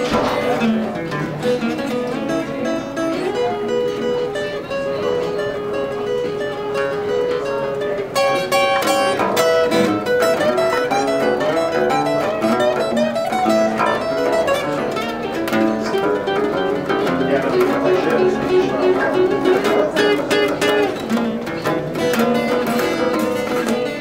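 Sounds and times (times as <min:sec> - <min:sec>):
acoustic bass guitar: 0:00.0 - 0:24.0
acoustic guitar: 0:00.0 - 0:24.0.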